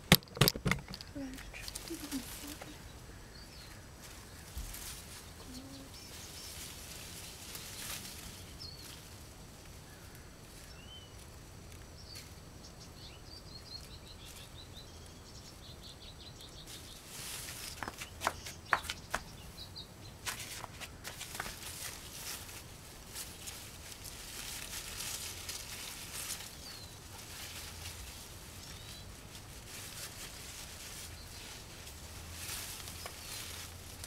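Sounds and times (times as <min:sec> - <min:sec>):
rustling of plants: 0:00.0 - 0:34.0
songbird chirps: 0:00.8 - 0:34.0.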